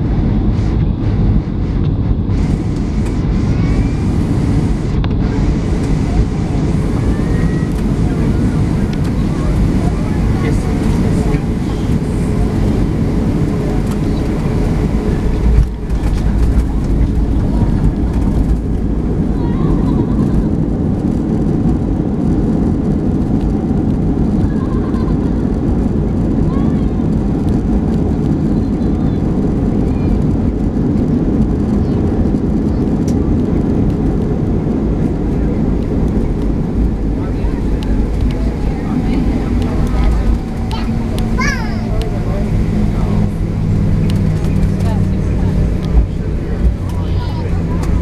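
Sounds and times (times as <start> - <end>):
aircraft engines rumbling: 0.0 - 48.0
wheels rolling on pavement: 2.4 - 48.0.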